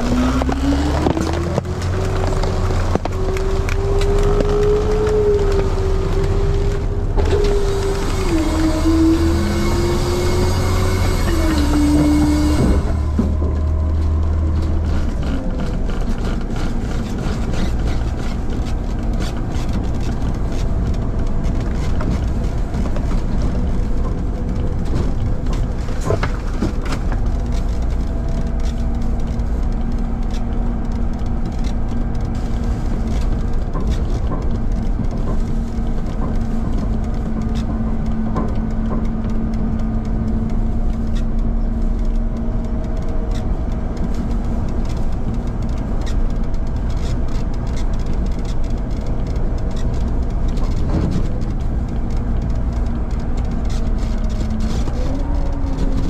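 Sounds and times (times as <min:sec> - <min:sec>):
garbage truck engine rumbling: 0:00.0 - 0:56.0.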